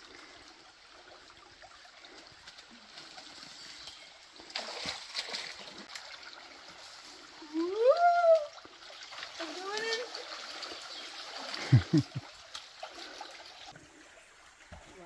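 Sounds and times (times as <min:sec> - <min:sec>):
rushing creek water: 0:00.0 - 0:15.0
splashing of wading: 0:00.0 - 0:15.0.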